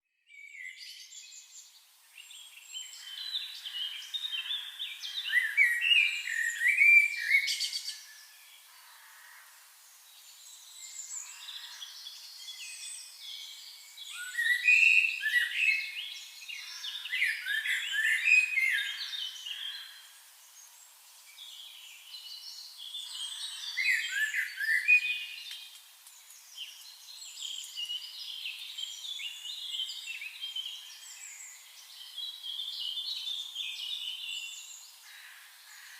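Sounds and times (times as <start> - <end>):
small songbirds chirping: 0.1 - 35.9.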